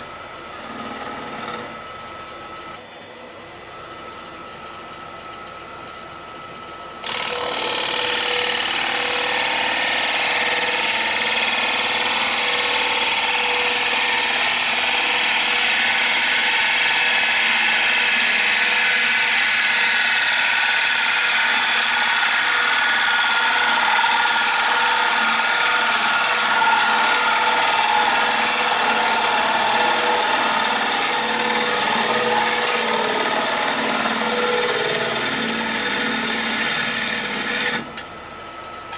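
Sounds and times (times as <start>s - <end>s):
wood lathe scraping spinning wood: 0.0s - 1.8s, 7.0s - 38.0s.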